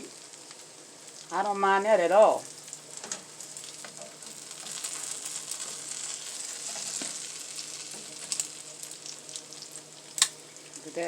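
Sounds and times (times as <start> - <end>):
toast sizzling in a frying pan: 0.0 - 11.0.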